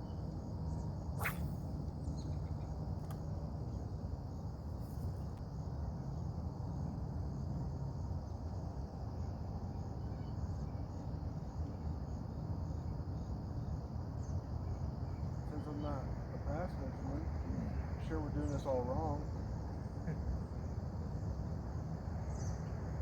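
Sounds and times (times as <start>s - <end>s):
insect chorus: 0.0s - 23.0s.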